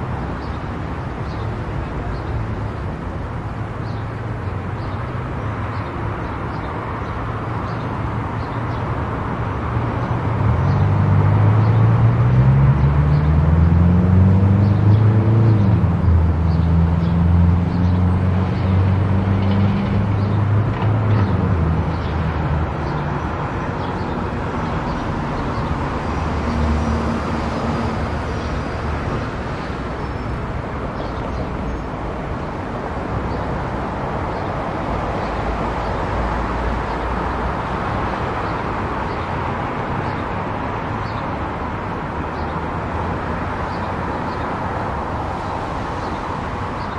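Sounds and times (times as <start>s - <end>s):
tyre and road noise: 0.0s - 46.9s.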